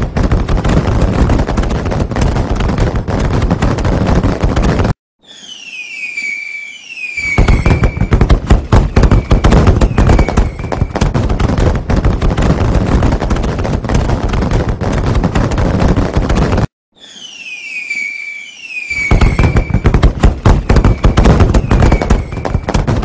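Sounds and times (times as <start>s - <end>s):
whistling rockets: 0.0s - 13.3s, 13.9s - 23.0s
fireworks bangs and crackling: 0.0s - 23.0s.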